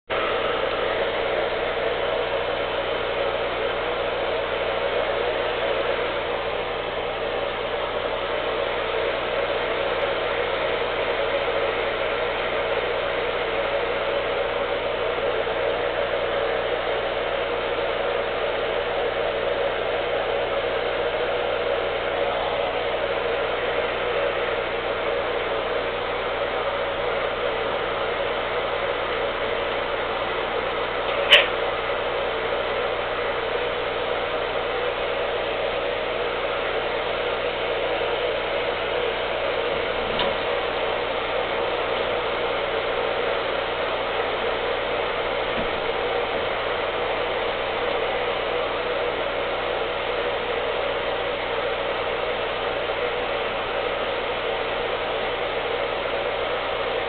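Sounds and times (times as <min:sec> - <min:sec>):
electric blower motor whirring: 0:00.1 - 0:52.0.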